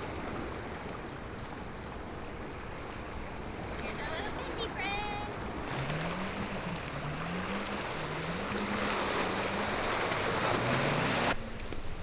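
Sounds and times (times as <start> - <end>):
speedboat engine running hard: 0.0 - 11.4
surf washing: 0.0 - 12.0
wind: 0.0 - 12.0.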